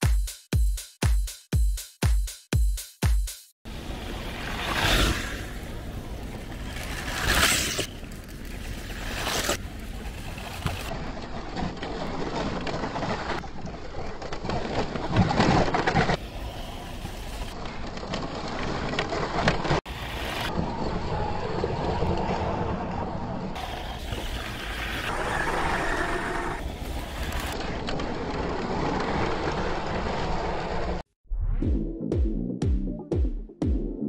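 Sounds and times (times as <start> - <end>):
rc car motors and tyres rumbling: 3.7 - 31.0.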